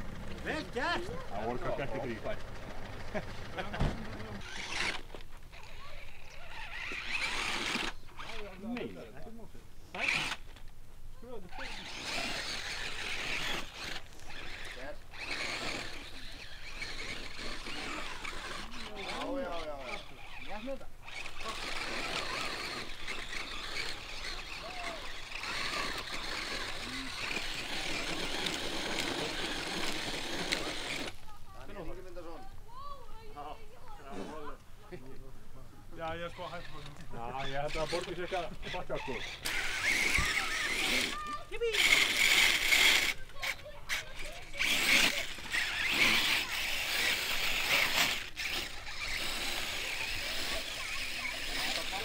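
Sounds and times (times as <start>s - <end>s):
toy car motor whining: 0.4s - 9.0s, 9.9s - 34.6s, 36.0s - 52.0s.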